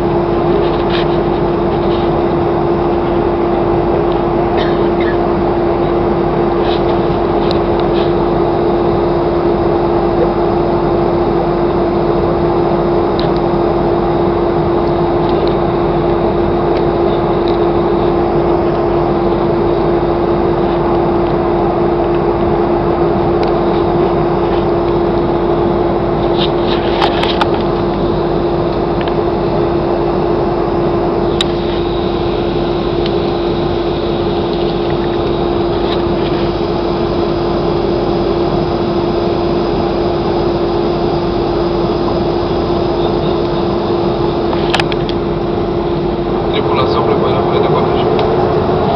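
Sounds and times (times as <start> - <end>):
airliner cabin engine noise: 0.0 - 48.9.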